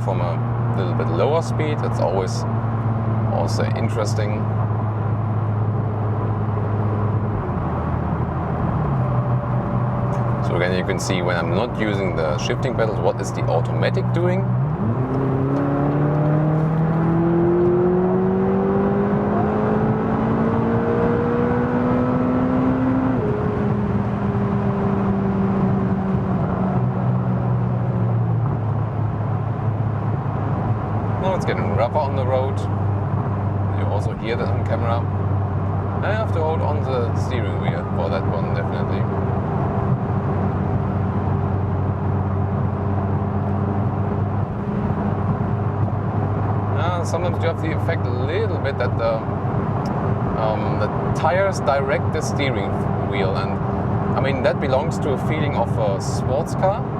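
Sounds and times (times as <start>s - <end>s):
car engine revving up: 0.0s - 56.9s
road and tyre noise: 0.0s - 56.9s.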